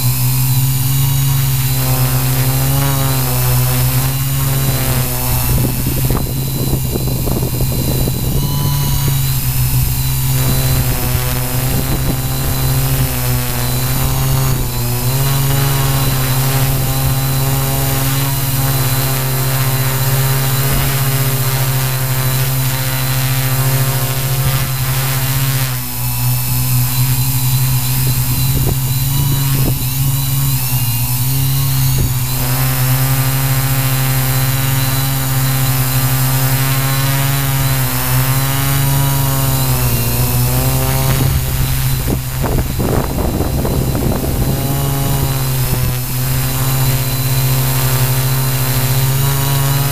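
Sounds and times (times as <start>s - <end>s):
drone propellers whining: 0.0s - 49.9s.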